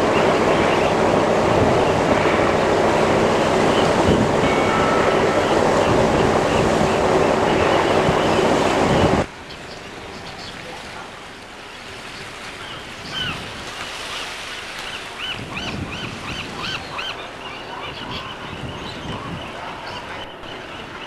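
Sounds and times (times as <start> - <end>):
gulls calling: 0.0 - 11.2, 12.2 - 21.0
water rushing: 0.0 - 21.0
wind: 0.0 - 21.0.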